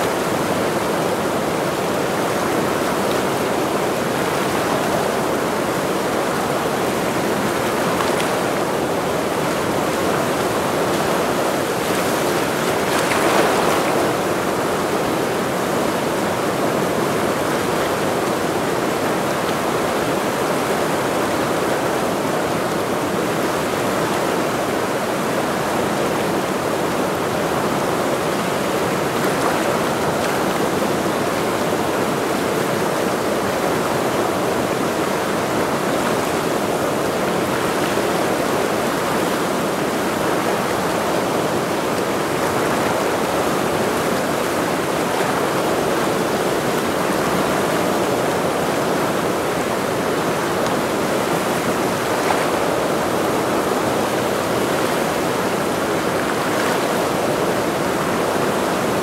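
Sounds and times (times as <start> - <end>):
mountain river rushing: 0.0 - 59.0.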